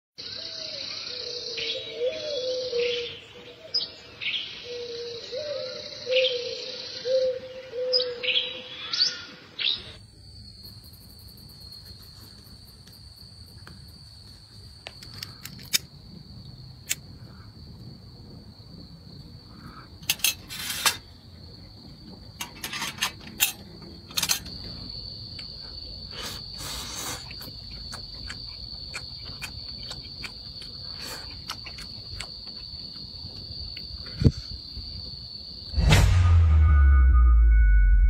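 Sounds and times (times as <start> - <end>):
cricket-like trill: 0.2 - 38.0
high insect trill: 4.2 - 37.5.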